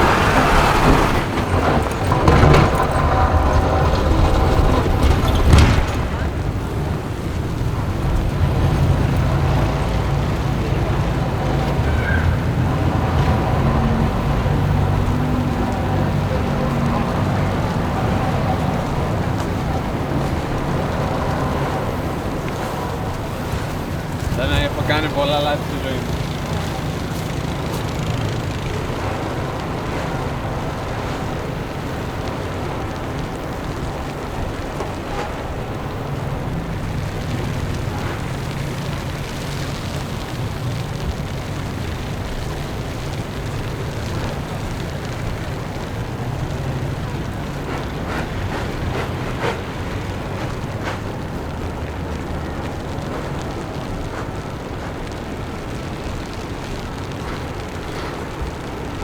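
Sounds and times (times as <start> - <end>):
traffic rumble: 0.0 - 59.0
wind: 0.0 - 59.0.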